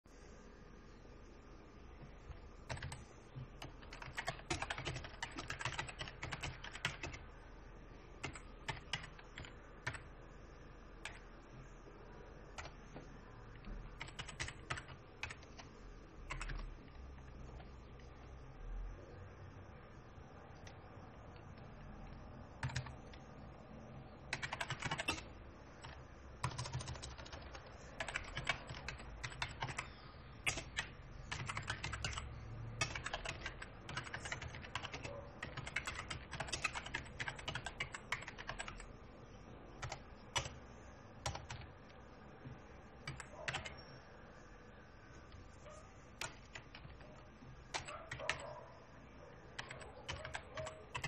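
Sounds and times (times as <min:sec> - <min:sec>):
computer keyboard typing: 0:02.0 - 0:07.4, 0:08.0 - 0:18.3, 0:20.5 - 0:23.4, 0:24.3 - 0:39.0, 0:39.8 - 0:44.1, 0:45.2 - 0:48.5, 0:49.4 - 0:51.0.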